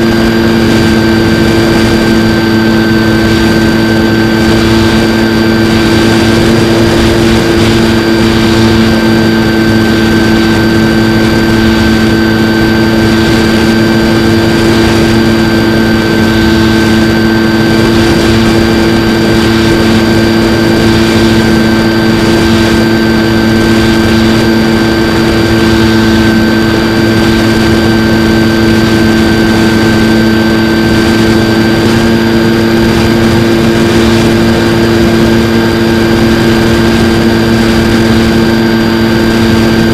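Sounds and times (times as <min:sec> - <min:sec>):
air rushing over airframe: 0:00.0 - 0:39.9
propeller motor drone: 0:00.0 - 0:39.9.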